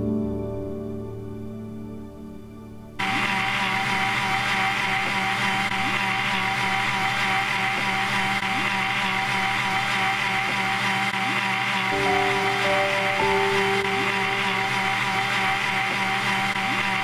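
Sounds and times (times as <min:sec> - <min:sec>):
electric mixer grinder running: 0:03.0 - 0:17.0.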